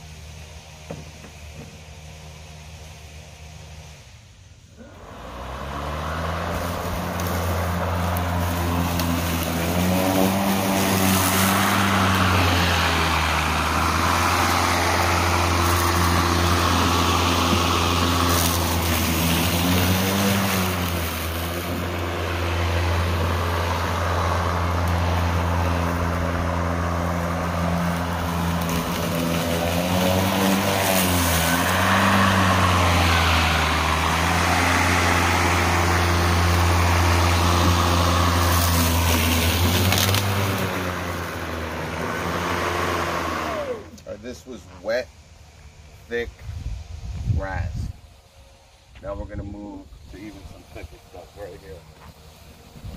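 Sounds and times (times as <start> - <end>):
electric lawn mower humming: 0.0 - 44.2, 50.3 - 52.9
mower cutting wet grass hiss: 0.0 - 47.4, 49.7 - 52.9.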